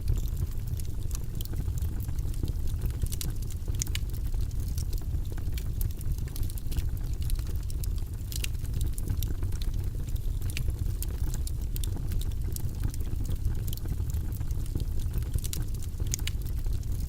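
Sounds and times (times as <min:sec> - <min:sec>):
logs burning in a fireplace: 0:00.0 - 0:17.0.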